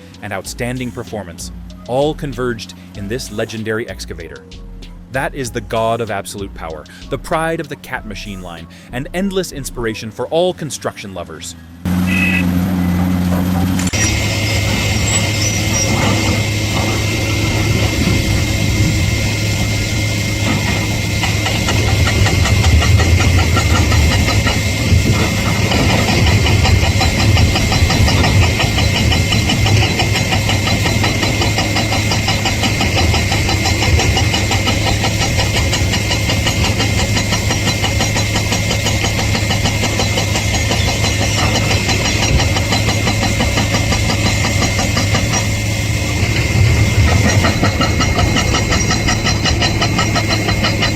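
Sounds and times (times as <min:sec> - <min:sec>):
heavy diesel engine throbbing: 0:00.0 - 0:50.9.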